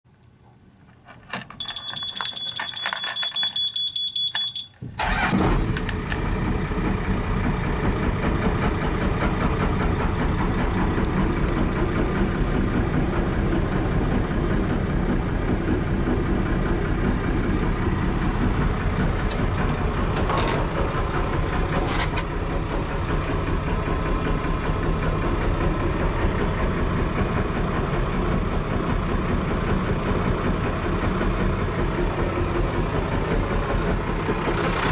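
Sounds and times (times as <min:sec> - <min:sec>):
diesel boat engine idling: 0:05.0 - 0:34.9.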